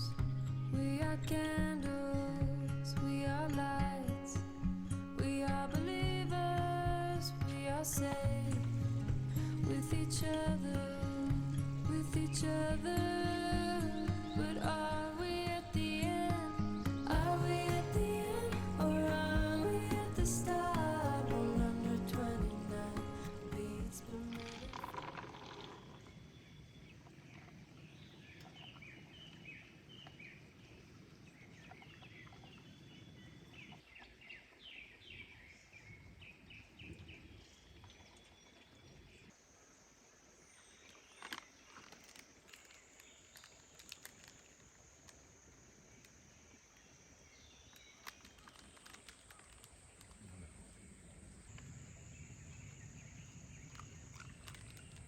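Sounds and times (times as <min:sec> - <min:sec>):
birds chirping: 0:00.0 - 0:39.3, 0:46.6 - 0:55.0.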